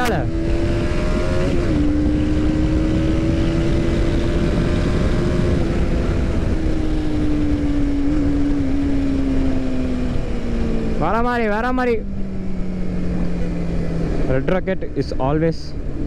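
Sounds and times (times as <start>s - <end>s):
heavy wind rush: 0.0s - 16.0s
motorcycle engine cruising: 0.0s - 16.0s.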